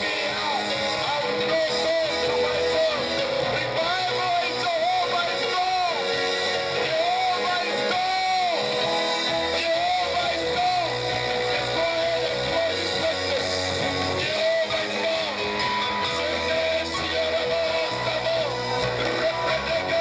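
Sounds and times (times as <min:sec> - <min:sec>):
guitar and instruments: 0:00.0 - 0:20.0
person singing: 0:00.0 - 0:20.0.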